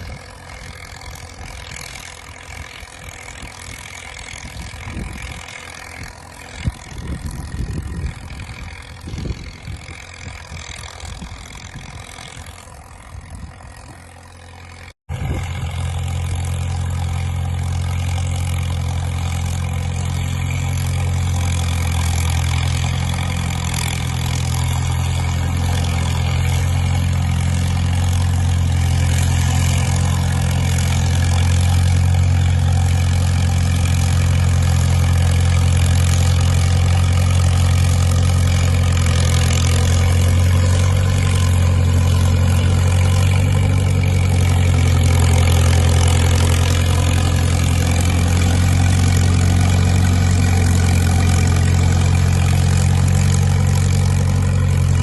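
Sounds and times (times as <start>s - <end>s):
engine knocks: 0.0s - 55.0s
heavy engine running: 0.0s - 55.0s.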